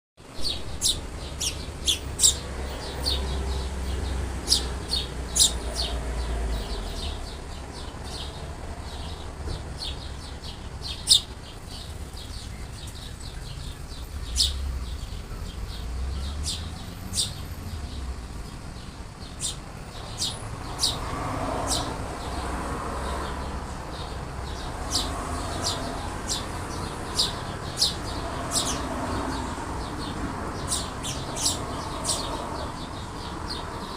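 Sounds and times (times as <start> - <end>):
sparrows chirping: 0.2 - 33.9.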